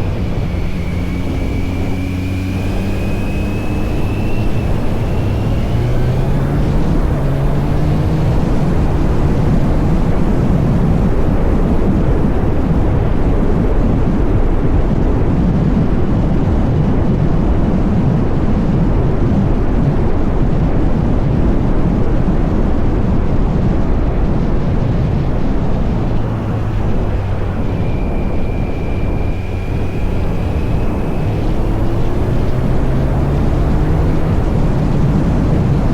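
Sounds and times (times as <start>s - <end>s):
motorcycle engine running loud: 0.0s - 35.9s.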